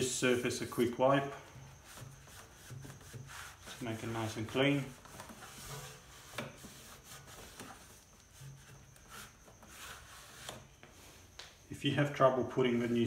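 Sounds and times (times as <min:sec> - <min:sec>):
cloth rubbing on machine: 0:00.0 - 0:11.4.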